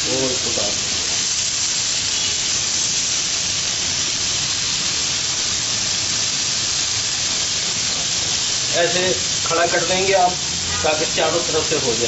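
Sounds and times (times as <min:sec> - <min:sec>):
chicken sizzling on a grill pan: 0:00.0 - 0:12.0.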